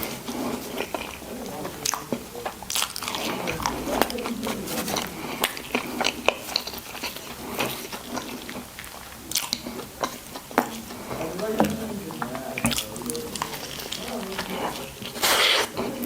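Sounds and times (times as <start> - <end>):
biting and chewing food: 0.0 - 16.0.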